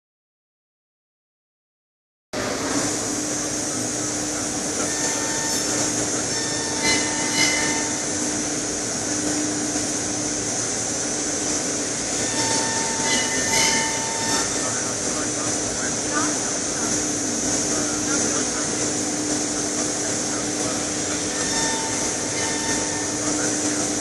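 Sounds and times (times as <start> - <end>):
constant hum: 2.4 - 24.0
machine hissing: 2.4 - 24.0.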